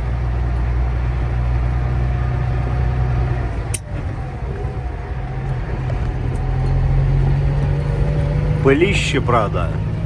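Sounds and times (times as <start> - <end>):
gravel road rumble: 0.0 - 10.0
truck engine drone: 0.0 - 10.0.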